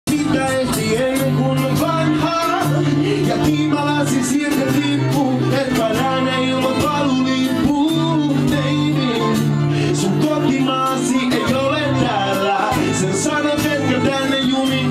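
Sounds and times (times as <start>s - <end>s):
acoustic guitar strumming: 0.1s - 14.9s
man singing into microphone: 0.1s - 14.9s
violin: 0.1s - 14.9s.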